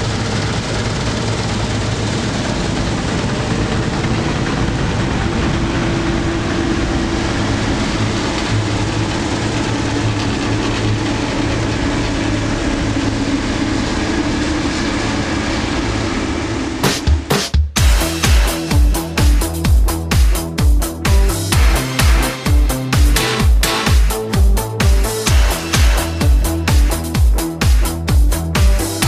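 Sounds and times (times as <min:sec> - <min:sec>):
combine harvester engine drone: 0:00.0 - 0:17.2, 0:17.8 - 0:29.0.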